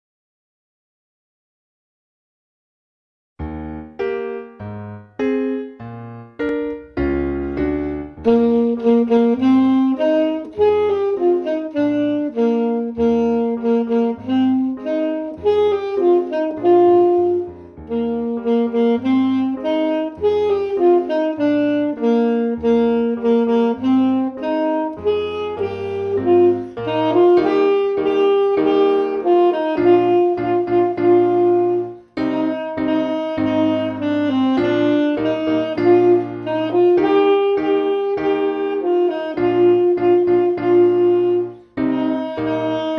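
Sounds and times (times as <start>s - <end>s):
alto saxophone playing: 3.4s - 42.9s
keyboard backing track: 3.4s - 42.9s.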